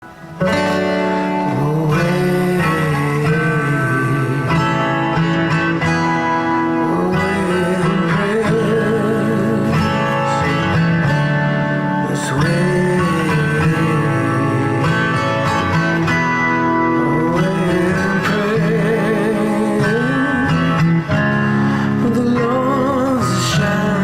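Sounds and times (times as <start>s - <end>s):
guitar solo melody: 0.0s - 24.0s
held guitar chords: 0.0s - 24.0s.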